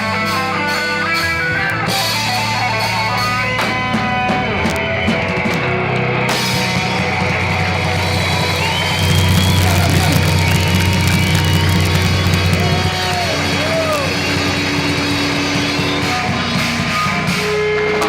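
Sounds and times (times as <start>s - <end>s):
heavy metal band playing: 0.0s - 18.0s
ringing electric guitar notes: 0.0s - 18.0s.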